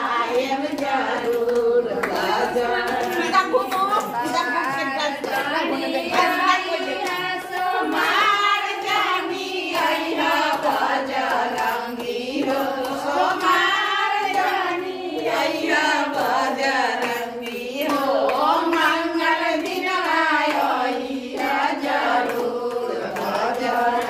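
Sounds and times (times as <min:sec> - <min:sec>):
hand clapping: 0:00.0 - 0:24.0
women singing devotional song: 0:00.0 - 0:24.0.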